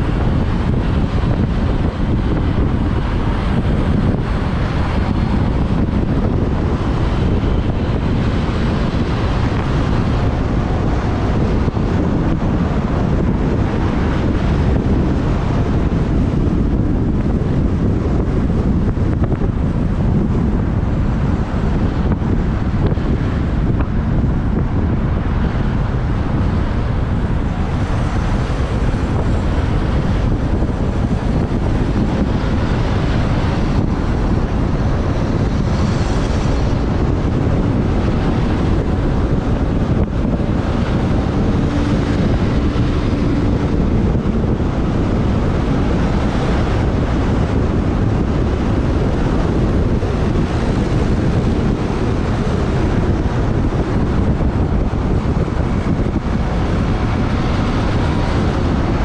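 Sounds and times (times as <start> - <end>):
surrounding traffic: 0.0 - 59.0
wind buffeting microphone: 0.0 - 59.0.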